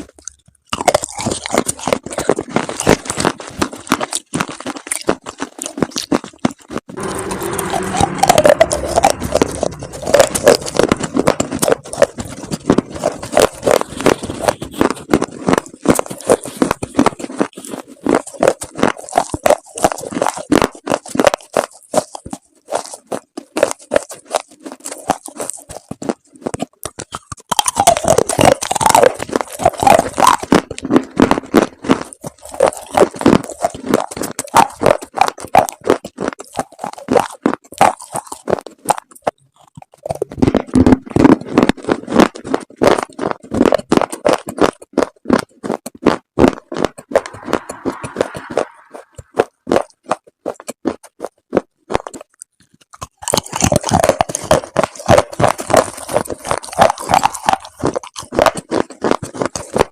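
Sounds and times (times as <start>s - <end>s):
dried chalk paste crunching: 0.0s - 59.9s.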